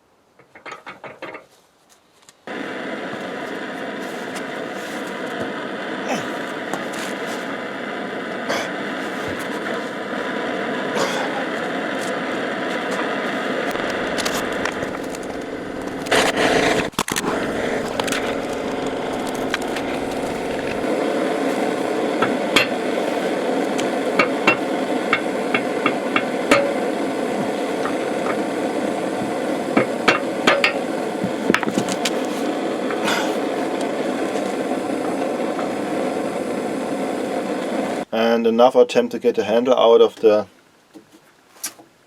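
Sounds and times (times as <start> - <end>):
steady background noise: 0.0 - 38.1.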